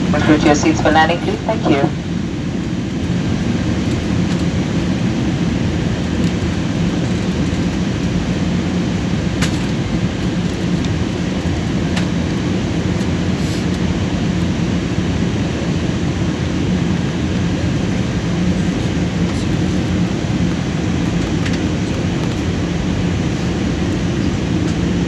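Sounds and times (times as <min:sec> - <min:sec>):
airliner engines roaring in cabin: 0:00.0 - 0:25.0.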